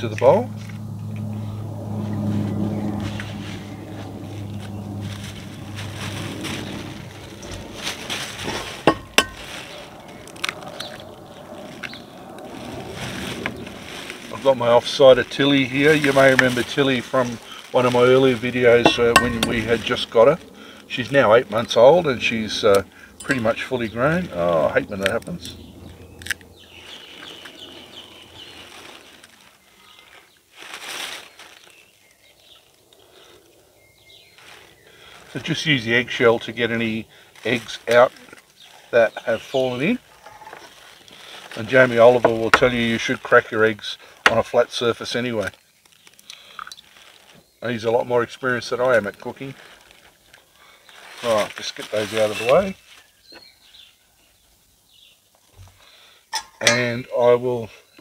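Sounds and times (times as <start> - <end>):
plastic bag rustling: 0.0 - 53.3.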